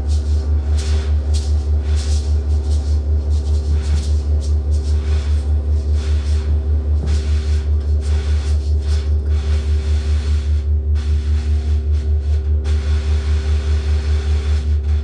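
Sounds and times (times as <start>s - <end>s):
deep pulsing electronic drone: 0.0s - 15.0s.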